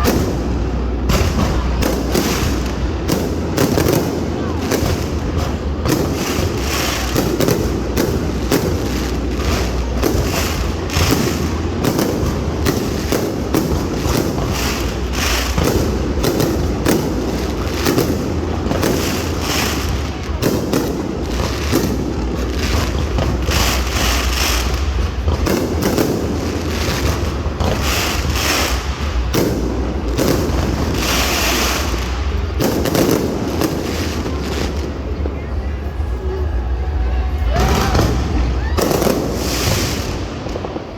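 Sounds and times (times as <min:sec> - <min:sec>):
fireworks bangs and booms: 0:00.0 - 0:40.9.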